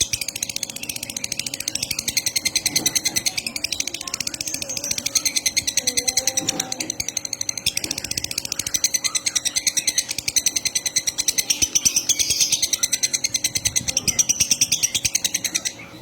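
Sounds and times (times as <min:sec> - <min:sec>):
songbird fast chatter: 0:00.0 - 0:16.0.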